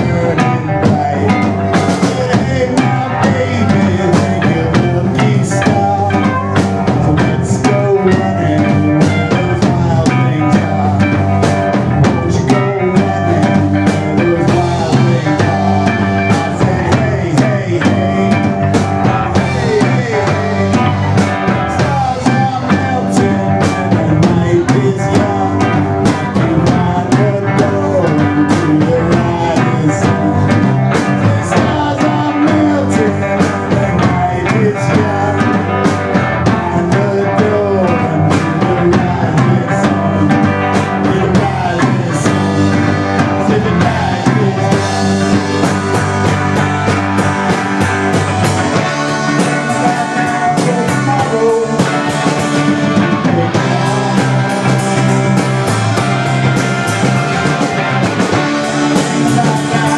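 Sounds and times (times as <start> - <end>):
drum and cymbal hits: 0.0 - 59.9
gliding guitar line: 0.0 - 59.9
rock band playing: 0.0 - 59.9.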